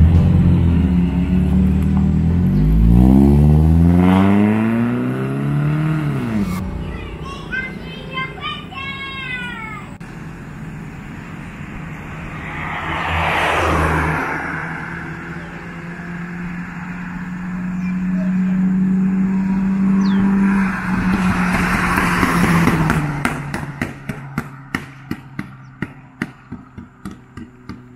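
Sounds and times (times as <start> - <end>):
cars driving past: 0.0 - 27.9.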